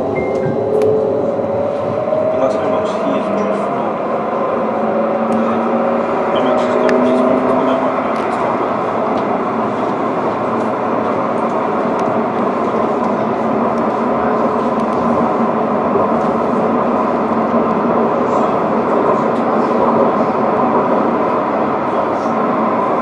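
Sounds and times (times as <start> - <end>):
tram wheels rumbling on rail: 0.0 - 23.0.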